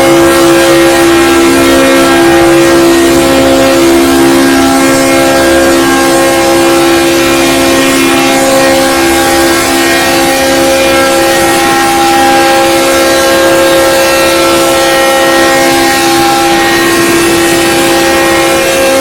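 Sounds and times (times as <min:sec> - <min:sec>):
locomotive air horn: 0:00.0 - 0:19.0.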